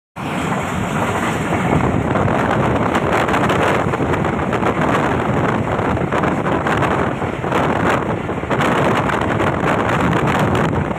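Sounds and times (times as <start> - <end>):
wind buffeting microphone: 0.2 - 10.9.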